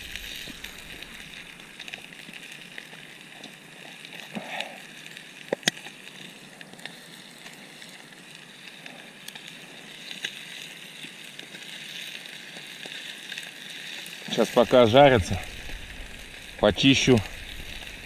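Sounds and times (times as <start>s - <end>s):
campfire crackling: 0.0s - 18.0s
chicken sizzling in oil: 0.0s - 18.0s.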